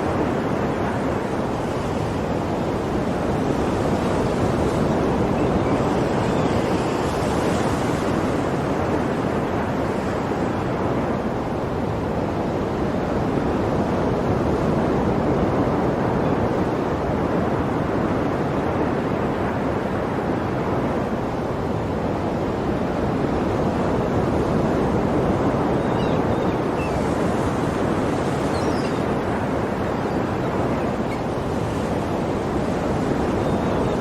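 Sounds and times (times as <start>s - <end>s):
sea surf washing: 0.0s - 34.0s.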